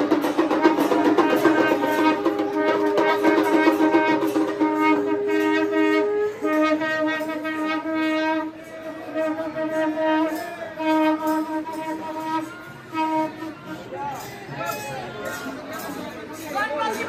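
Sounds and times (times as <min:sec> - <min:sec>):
conch shell blown: 0:00.0 - 0:15.4.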